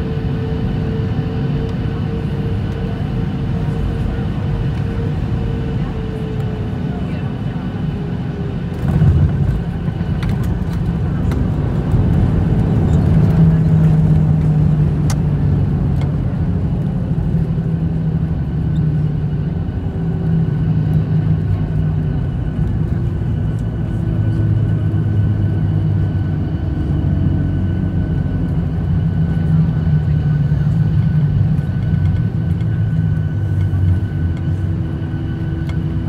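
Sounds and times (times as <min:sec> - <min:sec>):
airliner engine and wheel rumble: 0:00.0 - 0:36.0
humming drone: 0:00.0 - 0:36.0.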